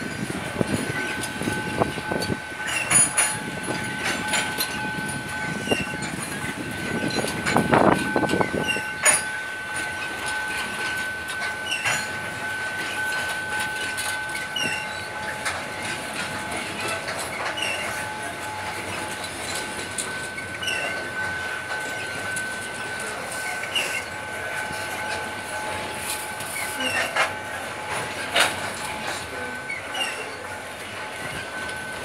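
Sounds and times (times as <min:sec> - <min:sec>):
freight train rolling past: 0:00.0 - 0:32.0
wheels clacking over rail joints: 0:00.0 - 0:32.0.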